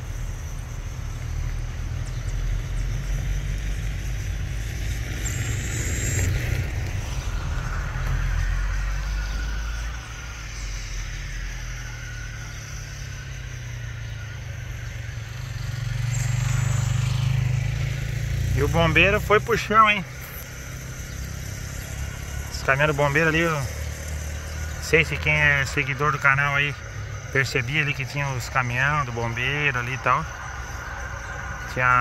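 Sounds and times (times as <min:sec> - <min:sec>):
faint high whine: 0:00.0 - 0:32.0
jet engines rumbling: 0:00.0 - 0:32.0.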